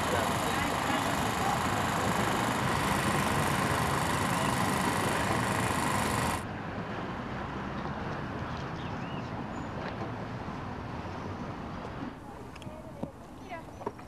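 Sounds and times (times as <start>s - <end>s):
outdoor street ambience: 0.0s - 14.0s.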